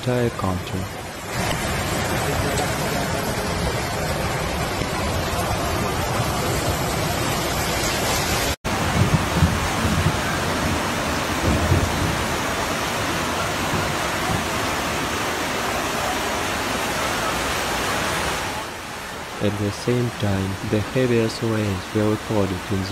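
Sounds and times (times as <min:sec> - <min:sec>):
floodwater rushing: 0:00.0 - 0:22.9.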